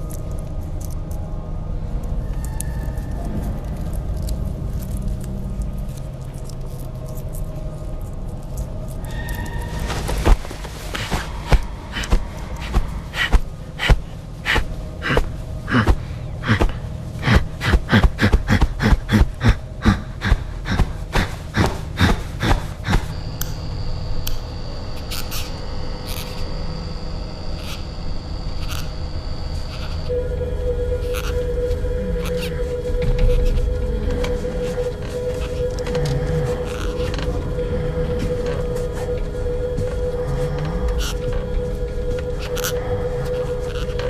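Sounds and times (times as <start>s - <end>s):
high whine: 0.0s - 44.0s
low hum: 0.0s - 44.0s.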